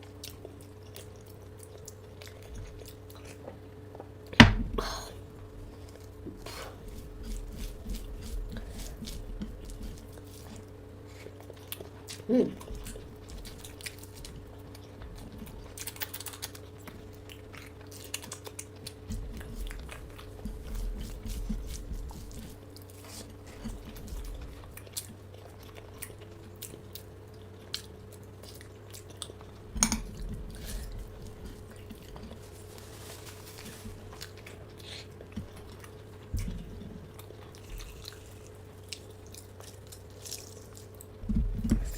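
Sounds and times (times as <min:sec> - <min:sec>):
chewing crunchy food: 0:00.0 - 0:04.4, 0:05.3 - 0:41.9
low hum: 0:00.0 - 0:41.9.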